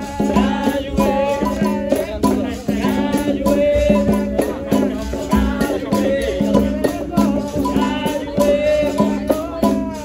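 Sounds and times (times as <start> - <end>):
berimbau rhythm: 0.0 - 10.0
shakers rattling: 0.0 - 10.0
voices singing: 0.0 - 10.0.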